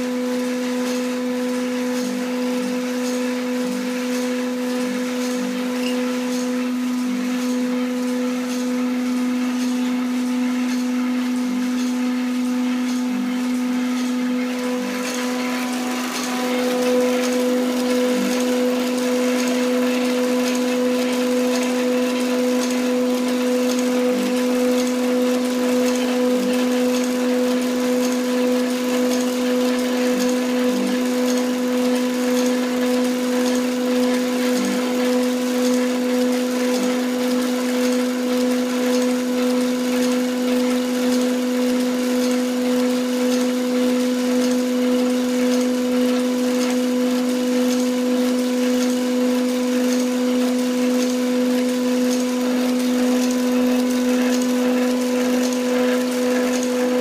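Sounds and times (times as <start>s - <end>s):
small electric motor humming: 0.0s - 57.0s.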